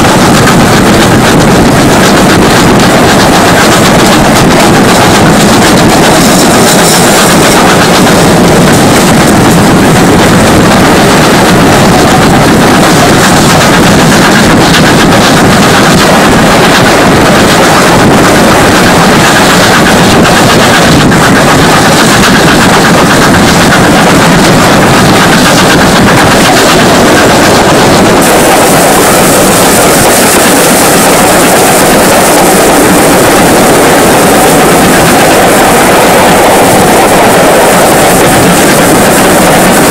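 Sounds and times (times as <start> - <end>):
train rumble and rattle: 0.0 - 39.9
wind on microphone: 0.0 - 39.9.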